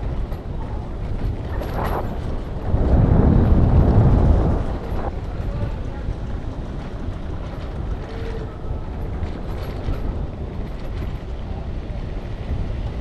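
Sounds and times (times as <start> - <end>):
bicycle rolling on bricks: 0.0 - 13.0
wind buffeting microphone: 0.0 - 13.0.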